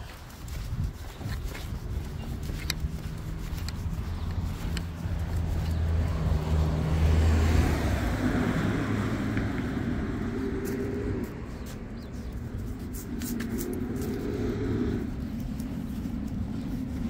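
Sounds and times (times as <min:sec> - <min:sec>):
vehicle driving past: 0:02.1 - 0:16.2.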